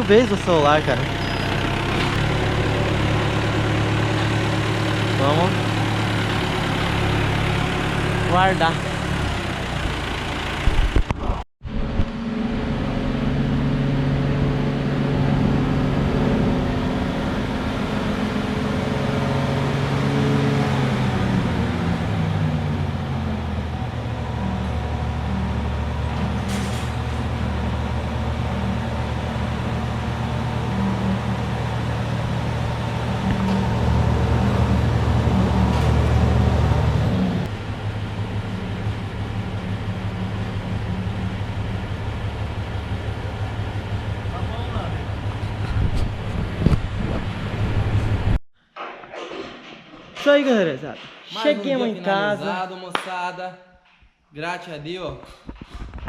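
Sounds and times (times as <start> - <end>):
tractor diesel engine running: 0.0 - 48.4.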